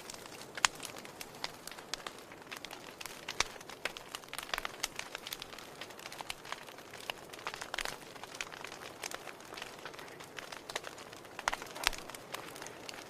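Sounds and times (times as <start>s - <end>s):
soft hiss of fire: 0.0s - 13.0s
wood fire crackling: 0.0s - 13.0s.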